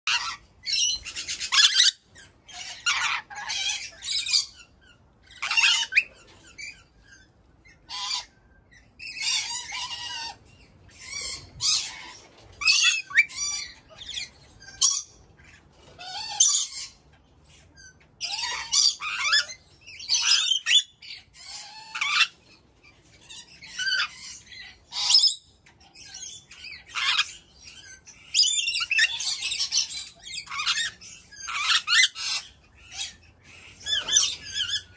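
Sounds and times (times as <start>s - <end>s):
lorikeets calling shrilly: 0.1s - 34.9s.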